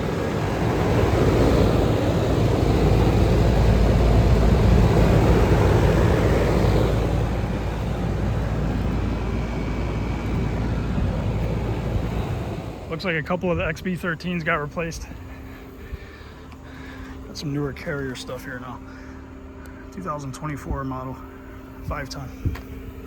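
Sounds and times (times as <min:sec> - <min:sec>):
air conditioning units running: 0:00.0 - 0:23.0.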